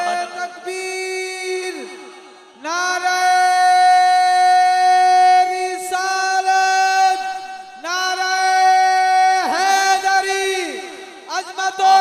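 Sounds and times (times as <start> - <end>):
man singing through loudspeakers: 0.0 - 12.0.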